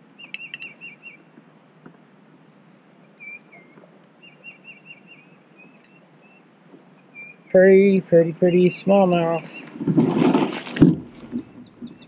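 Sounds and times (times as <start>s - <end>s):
faint steady hiss: 0.0s - 12.0s
songbird singing: 0.0s - 12.0s.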